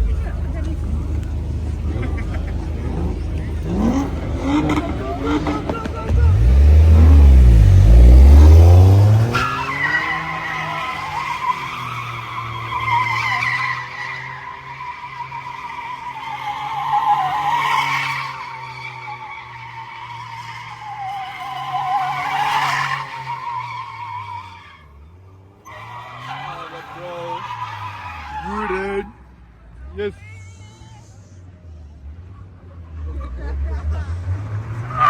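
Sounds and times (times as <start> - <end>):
car engine revving: 0.0 - 29.9, 31.8 - 35.0
tyres squealing: 0.6 - 29.1.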